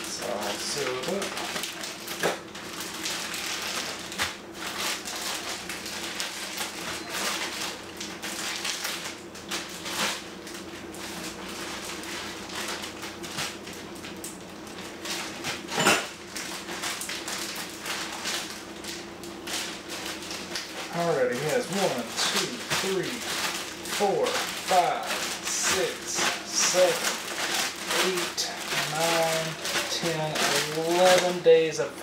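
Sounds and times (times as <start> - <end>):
plastic bags crinkling: 0.0 - 32.0.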